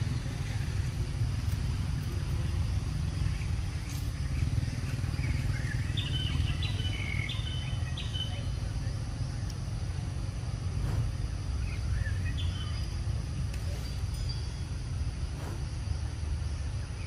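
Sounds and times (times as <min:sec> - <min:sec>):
bird chirping: 0:00.0 - 0:09.7, 0:10.8 - 0:17.0
low outdoor rumble: 0:00.0 - 0:17.0.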